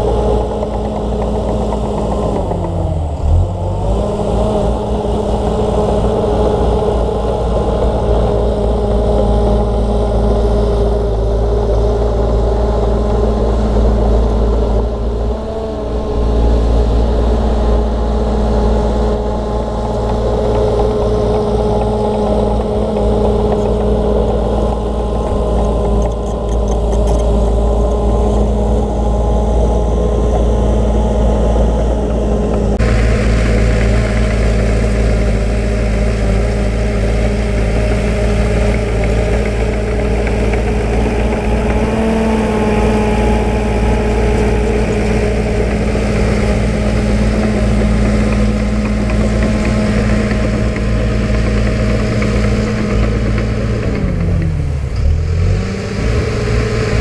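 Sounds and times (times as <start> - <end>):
heavy machinery diesel engine running: 0.0 - 57.0.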